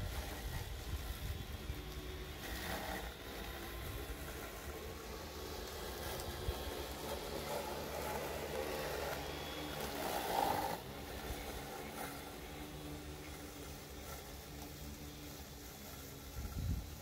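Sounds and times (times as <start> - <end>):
small electric motors running: 0.0 - 17.0.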